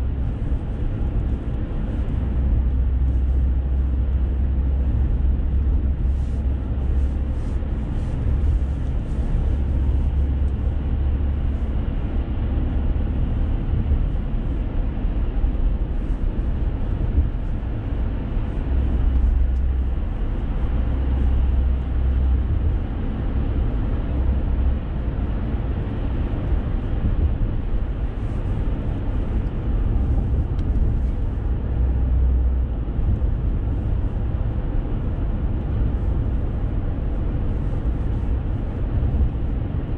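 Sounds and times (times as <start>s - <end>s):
car cabin road rumble: 0.0s - 39.9s.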